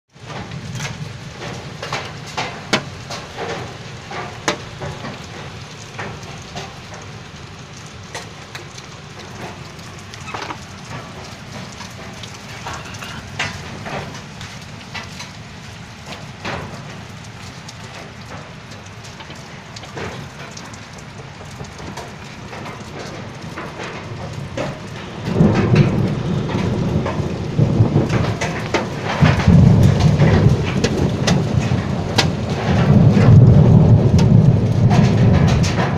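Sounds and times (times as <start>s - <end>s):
hailstones pattering: 0.1s - 35.9s
sharp cracks of hailstones: 0.1s - 35.9s
deep rumbling: 0.2s - 35.9s.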